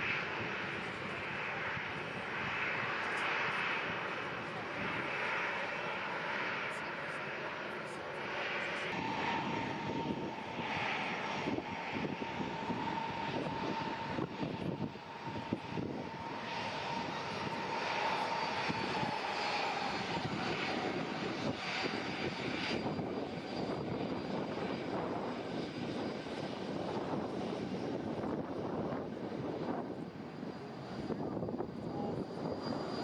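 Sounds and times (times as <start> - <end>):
jet engine whine: 0.0 - 33.0
jet engines rushing: 0.0 - 33.0.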